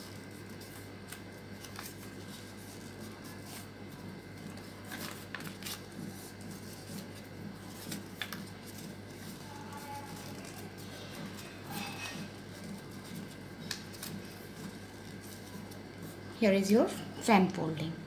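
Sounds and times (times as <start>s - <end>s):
paper rustling and snapping: 0.1s - 16.1s.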